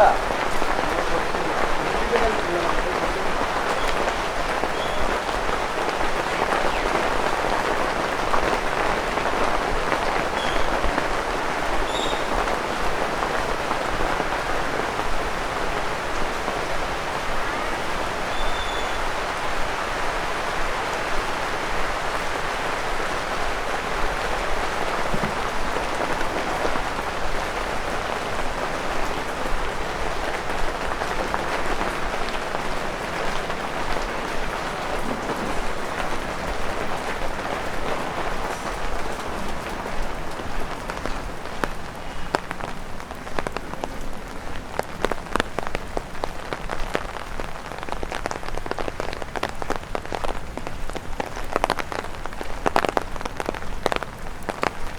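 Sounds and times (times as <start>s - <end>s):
rain pattering on an umbrella: 0.0s - 54.9s.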